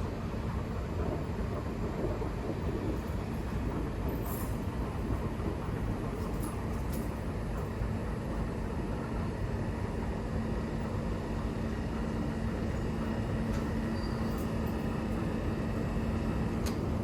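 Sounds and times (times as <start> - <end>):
constant low hum: 0.0 - 17.0
train rumbling: 0.0 - 17.0.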